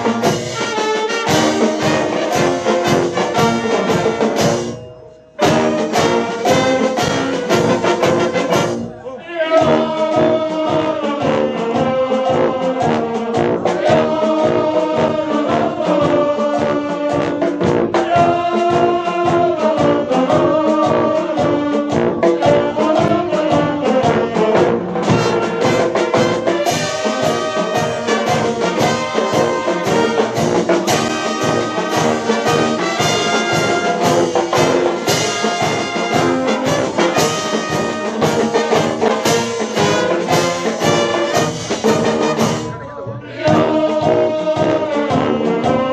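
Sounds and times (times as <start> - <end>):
snare and bass drum beat: 0.0 - 4.8, 5.4 - 42.8, 43.4 - 45.9
brass band playing: 0.0 - 45.9.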